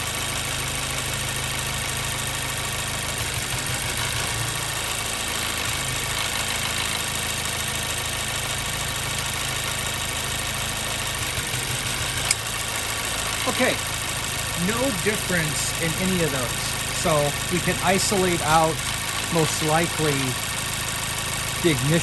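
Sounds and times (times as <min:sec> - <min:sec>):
car engine idling with misfire: 0:00.0 - 0:22.0.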